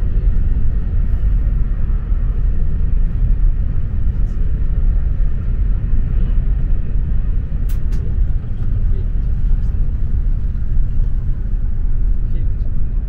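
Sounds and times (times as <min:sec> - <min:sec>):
train rumble inside cabin: 0:00.0 - 0:13.0.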